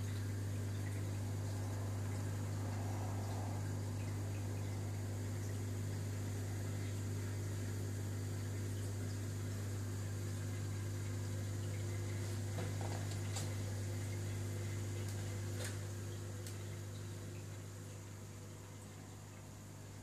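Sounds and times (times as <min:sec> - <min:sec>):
circulating water: 0:00.0 - 0:20.0
water pumps humming: 0:00.0 - 0:20.0.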